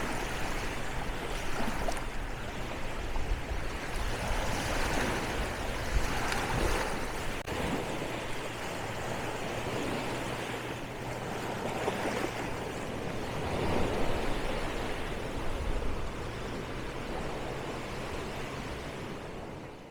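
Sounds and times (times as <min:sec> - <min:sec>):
waves breaking on a beach: 0:00.0 - 0:19.9.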